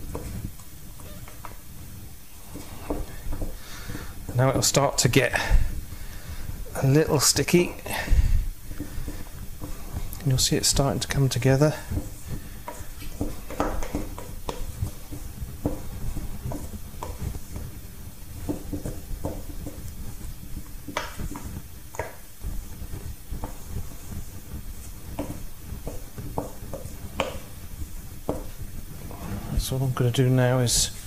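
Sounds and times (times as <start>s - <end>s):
wooden spoon scraping metal bowl: 2.4s - 29.7s.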